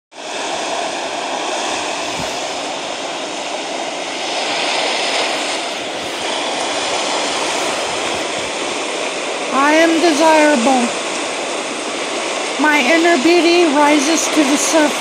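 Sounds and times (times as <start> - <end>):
ocean surf rushing: 0.2 - 15.0.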